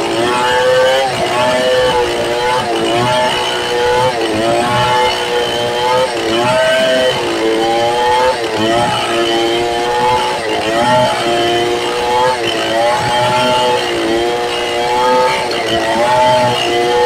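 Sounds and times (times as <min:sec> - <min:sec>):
chainsaw cutting a log: 0:00.0 - 0:17.0.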